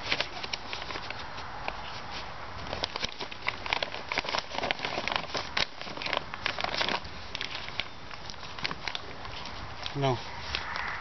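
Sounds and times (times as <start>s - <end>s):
plastic sheeting crackling: 0.0s - 10.9s.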